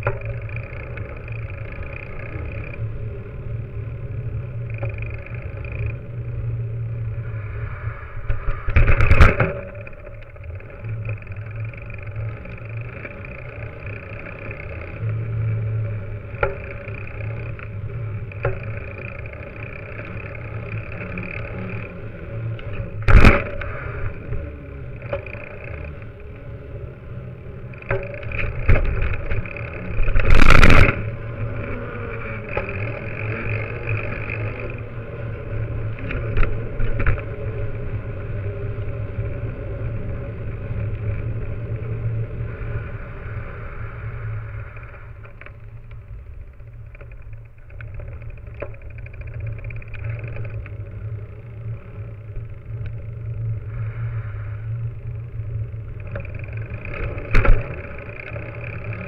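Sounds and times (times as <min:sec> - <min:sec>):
bike tyre rolling rumble: 0:00.0 - 0:59.0.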